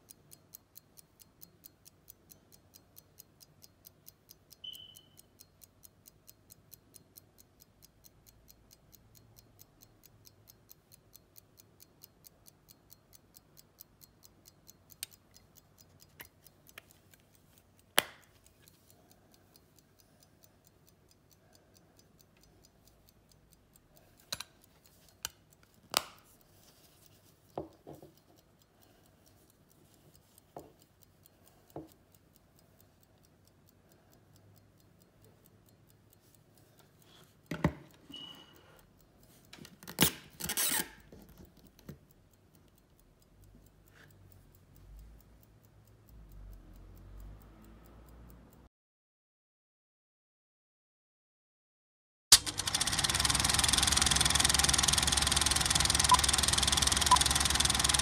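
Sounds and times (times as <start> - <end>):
pocket watch ticking: 0.0 - 48.7, 52.3 - 58.0.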